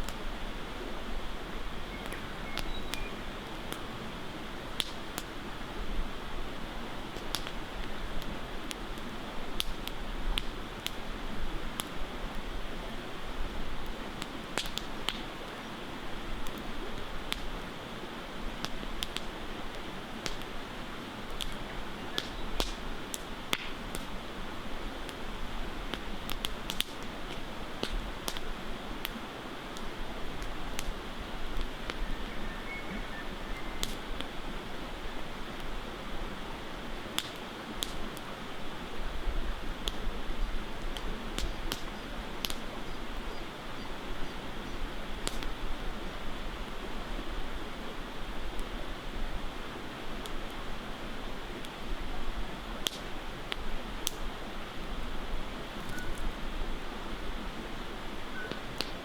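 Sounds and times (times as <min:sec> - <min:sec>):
campfire crackling: 0:00.0 - 0:59.0
river water flowing: 0:00.0 - 0:59.0.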